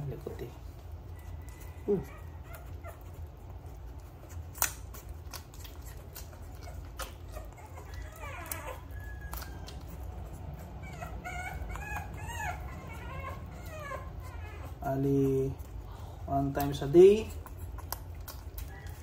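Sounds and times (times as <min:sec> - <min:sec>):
low steady hum: 0:00.0 - 0:19.0
puppy squeaking and whimpering: 0:00.2 - 0:19.0.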